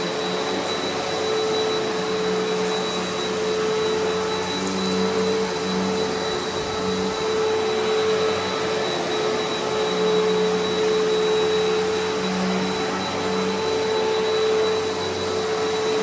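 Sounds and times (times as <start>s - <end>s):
vacuum cleaner running on carpet: 0.0s - 16.0s.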